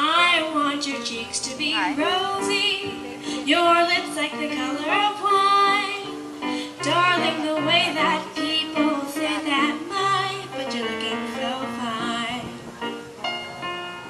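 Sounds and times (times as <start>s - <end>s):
woman singing with vibrato: 0.0s - 12.6s
instrumental accompaniment: 0.0s - 14.0s.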